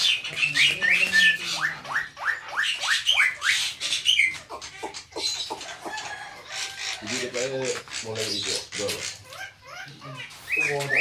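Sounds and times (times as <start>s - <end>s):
birds calling harshly: 0.0s - 11.0s
scratchy bird squawks: 0.0s - 11.0s.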